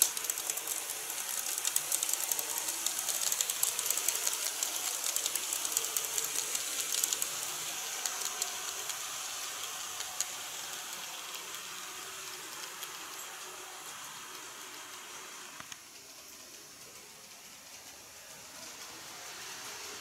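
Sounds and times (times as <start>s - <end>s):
model train wheels clicking: 0.0s - 20.0s.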